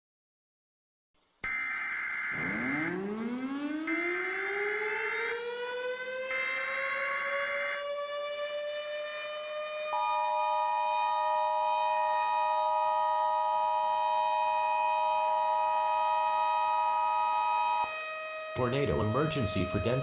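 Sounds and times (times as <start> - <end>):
civil defense siren wailing: 1.5 - 20.0.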